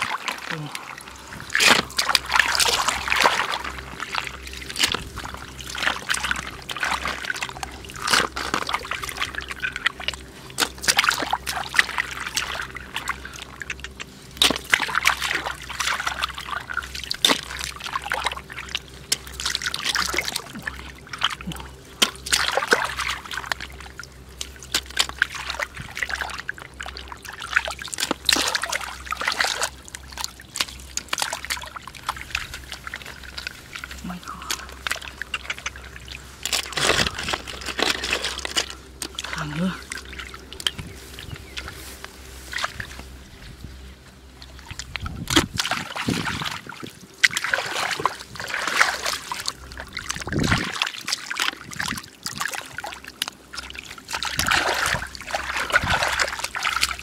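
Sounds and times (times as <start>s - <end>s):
hands splashing in muddy water: 0.0s - 43.2s, 44.4s - 57.0s
steady low hum: 0.0s - 57.0s.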